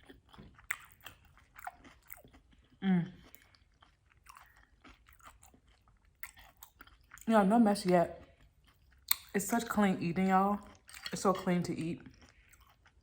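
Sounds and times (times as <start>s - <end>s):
person chewing with wet smacks: 0.0s - 9.5s, 10.3s - 13.0s.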